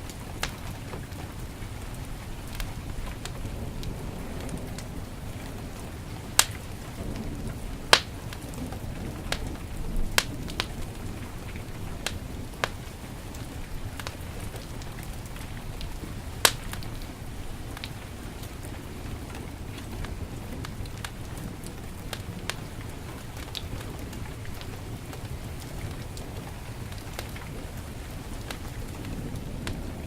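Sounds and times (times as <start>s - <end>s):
heavy rain hiss: 0.0s - 30.0s
wood fire crackling and popping: 0.0s - 30.0s.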